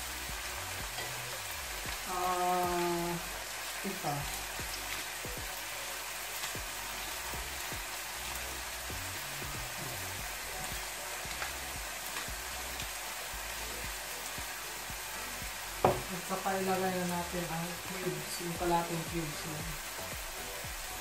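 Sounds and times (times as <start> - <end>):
meat sizzling in a pan: 0.0 - 21.0.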